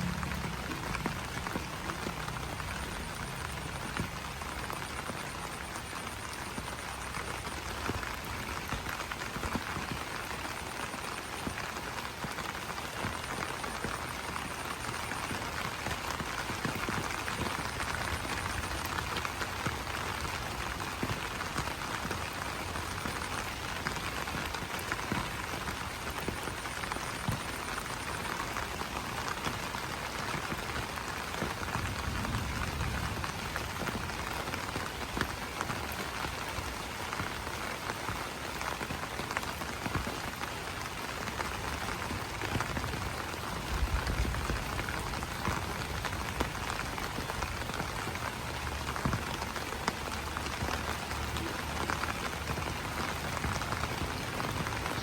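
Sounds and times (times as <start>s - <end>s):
rain pattering on leaves: 0.0s - 55.0s.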